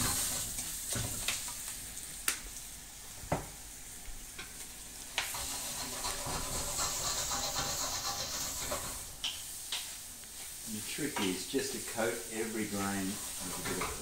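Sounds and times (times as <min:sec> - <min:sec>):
rice sizzling in oil: 0:00.0 - 0:14.0.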